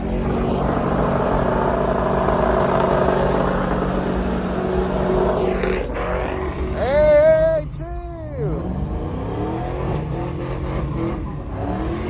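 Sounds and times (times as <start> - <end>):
car engine at high revs: 0.0 - 7.4, 8.2 - 12.0.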